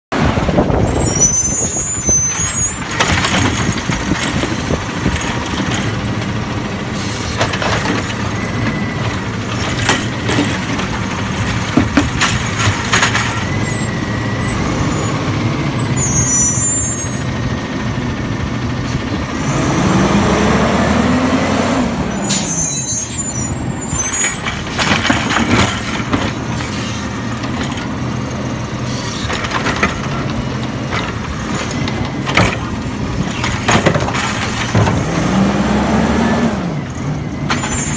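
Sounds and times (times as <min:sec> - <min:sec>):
diesel engine running: 0:00.1 - 0:37.9
metal arm and cart clanking: 0:00.2 - 0:17.4, 0:22.0 - 0:37.9.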